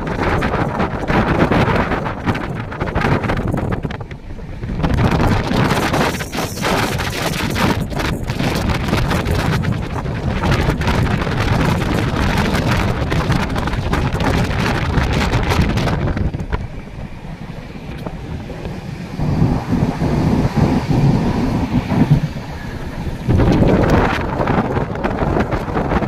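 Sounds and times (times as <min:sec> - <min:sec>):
moving train running noise: 0:00.0 - 0:26.0
rushing wind: 0:00.0 - 0:26.0
wind buffeting microphone: 0:00.0 - 0:26.0.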